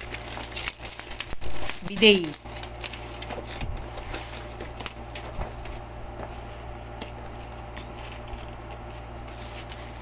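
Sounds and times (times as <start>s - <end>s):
plastic wrapping rustling: 0.0s - 10.0s.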